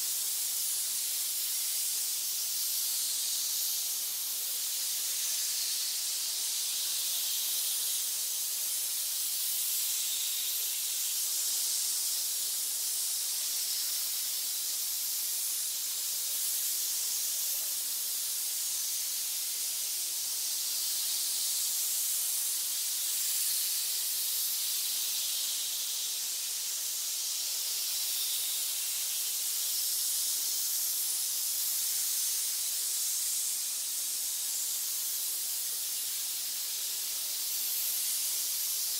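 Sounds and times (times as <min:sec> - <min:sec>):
snakes hissing: 0:00.0 - 0:38.9.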